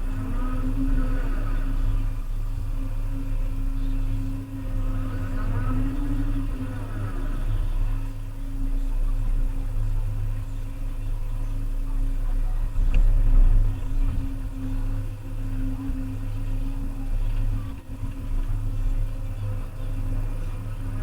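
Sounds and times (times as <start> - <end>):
faint whine: 0.0 - 21.0.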